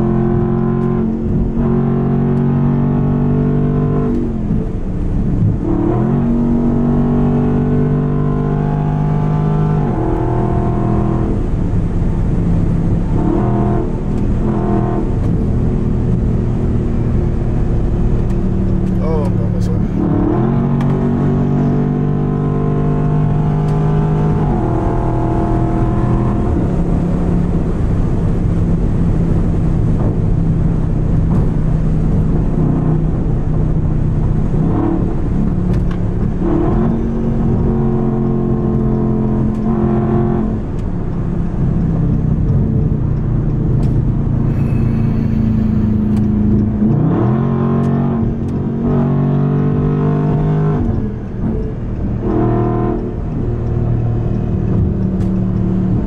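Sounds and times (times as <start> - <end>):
car engine droning in cabin: 0.0 - 56.0.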